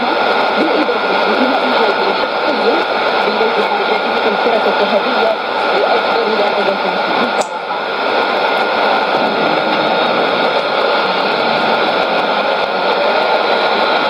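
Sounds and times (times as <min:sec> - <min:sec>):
radio hiss and static: 0:00.0 - 0:14.0.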